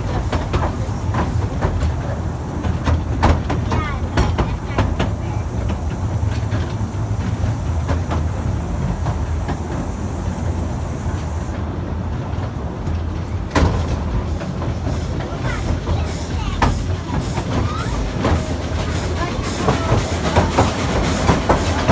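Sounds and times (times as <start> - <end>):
clicks of train: 0.0 - 21.9
train rumbling on rails: 0.0 - 21.9.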